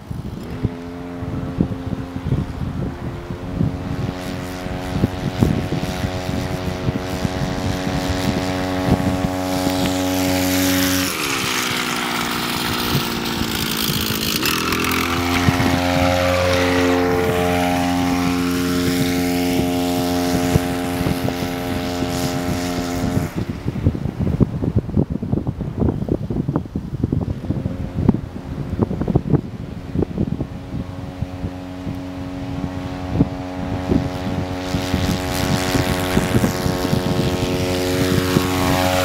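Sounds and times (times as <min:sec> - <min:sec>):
small motorbike engine running: 0:00.0 - 0:39.0.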